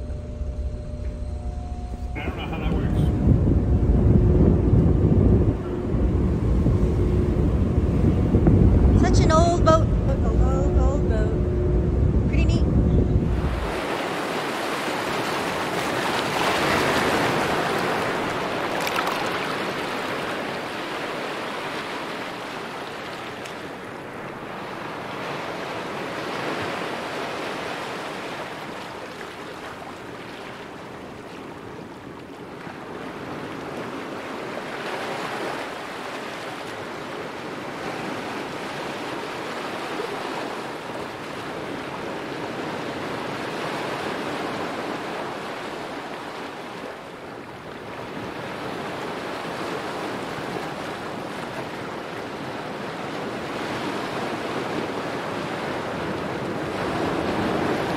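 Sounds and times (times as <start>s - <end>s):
water rushing: 0.0s - 57.9s
wind: 0.0s - 57.9s.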